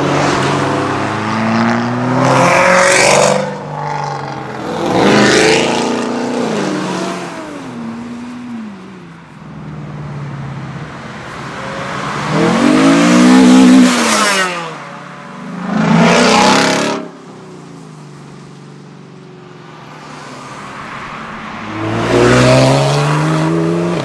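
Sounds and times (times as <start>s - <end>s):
cars accelerating on wet road: 0.0s - 18.7s, 19.8s - 24.0s.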